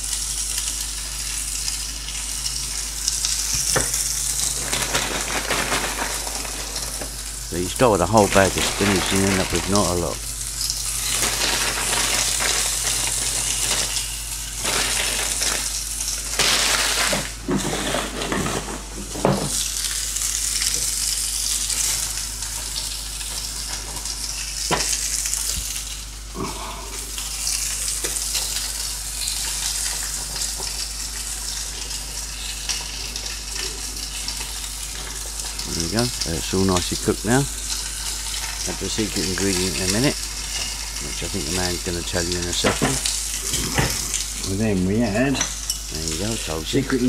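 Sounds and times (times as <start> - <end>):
food sizzling in a pan: 0.0 - 47.0.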